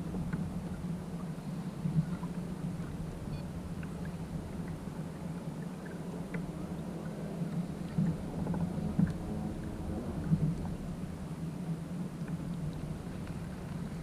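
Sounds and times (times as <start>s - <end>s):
water lapping against a hull: 0.0s - 14.0s.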